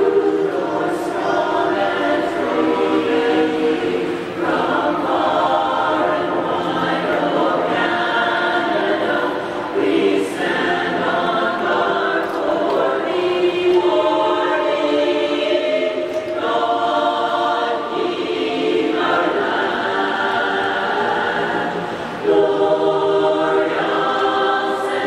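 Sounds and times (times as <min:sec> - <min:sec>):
women's chorus singing over loudspeakers: 0:00.0 - 0:25.0.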